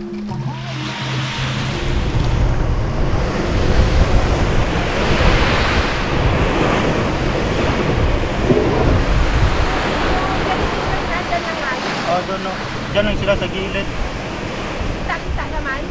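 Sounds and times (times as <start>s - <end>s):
sea waves surging: 0.5s - 15.9s
wind buffeting microphone: 1.6s - 15.9s.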